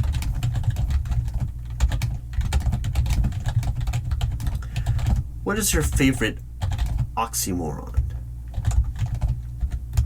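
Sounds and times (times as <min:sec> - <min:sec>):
keyboard typing: 0:00.0 - 0:05.2, 0:05.8 - 0:07.1, 0:07.9 - 0:10.0
constant low hum: 0:00.0 - 0:10.0.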